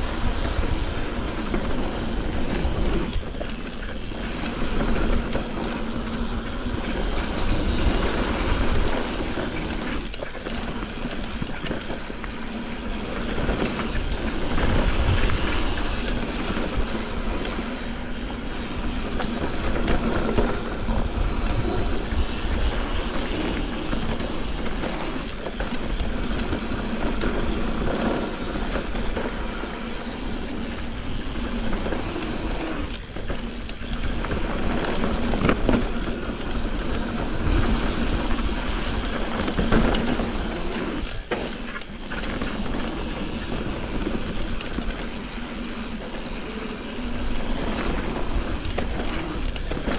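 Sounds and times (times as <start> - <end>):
bike tyres and rattle: 0.0 - 49.9
wind rumbling on microphone: 0.0 - 49.9.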